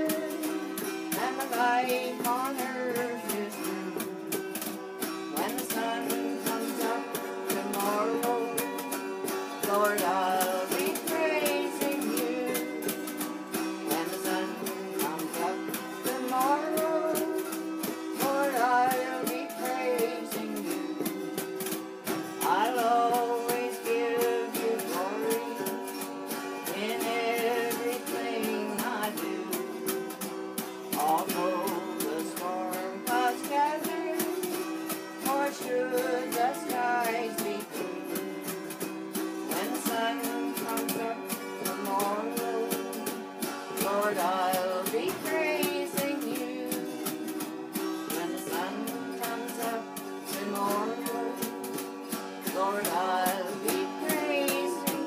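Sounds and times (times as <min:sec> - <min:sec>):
autoharps strummed in chords: 0:00.0 - 0:55.0.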